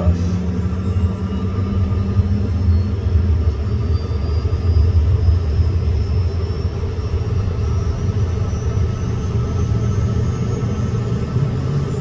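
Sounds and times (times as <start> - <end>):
jet engine spooling up: 0.0 - 12.0.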